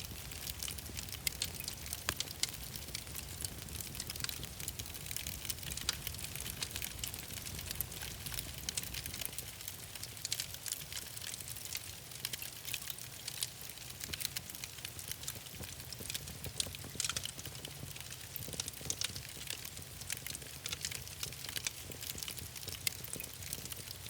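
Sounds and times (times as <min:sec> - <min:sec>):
low rumble of flames: 0:00.0 - 0:24.0
sharp fire pops and snaps: 0:00.0 - 0:24.0
wood fire crackling: 0:00.0 - 0:24.0.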